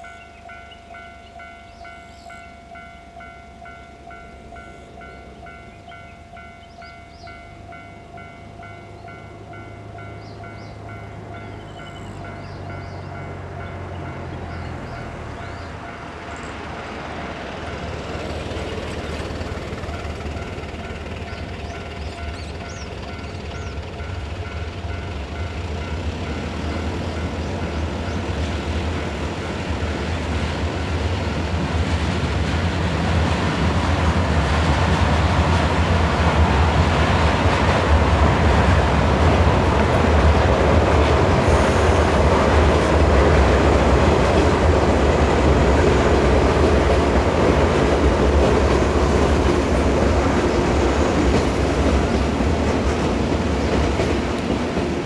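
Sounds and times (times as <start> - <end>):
electric train passing: 0.0 - 55.0.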